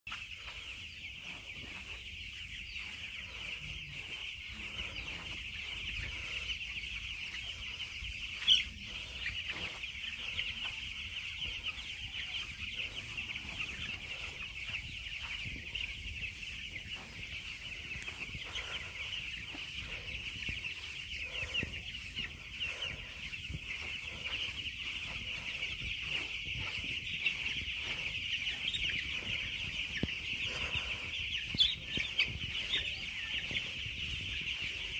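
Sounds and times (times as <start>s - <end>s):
chickens clucking and peeping: 0.1s - 34.9s.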